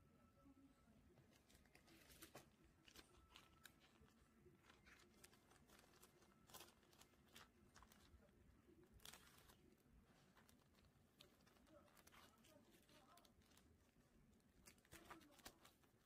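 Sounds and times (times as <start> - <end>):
plastic sleeve crinkling: 1.3 - 16.0.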